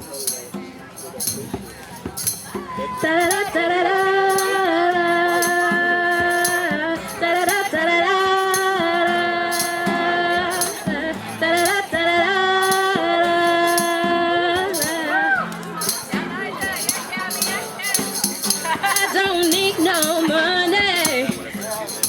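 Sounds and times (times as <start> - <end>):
tambourine beat: 0.0 - 22.0
wordless sung notes: 0.0 - 22.0.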